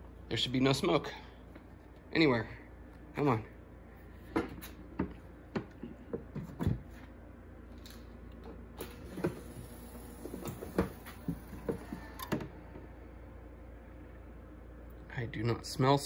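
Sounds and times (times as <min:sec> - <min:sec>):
cooling fans whirring: 0:00.0 - 0:16.0.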